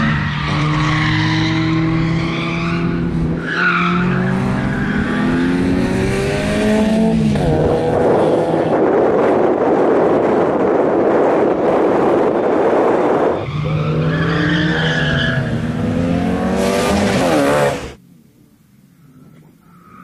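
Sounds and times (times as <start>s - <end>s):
rally car engine roaring: 0.0s - 18.0s.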